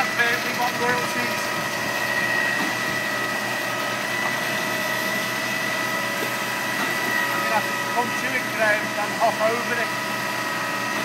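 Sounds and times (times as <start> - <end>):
concrete pump droning: 0.0 - 11.0.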